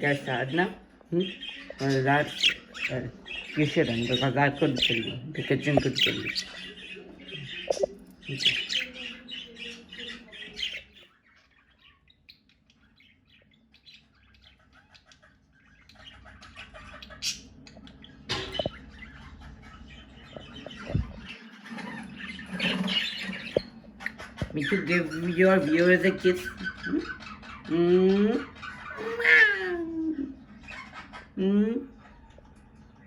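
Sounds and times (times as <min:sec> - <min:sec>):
budgerigars chattering: 0:00.0 - 0:27.8, 0:28.4 - 0:29.7.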